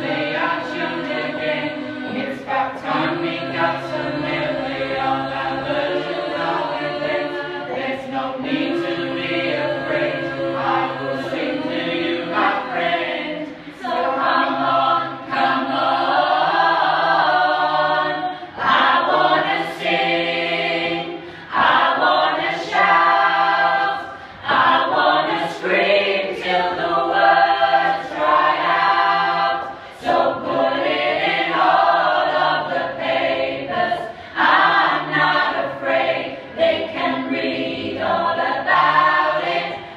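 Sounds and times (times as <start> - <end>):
group of voices singing: 0.0 - 39.9.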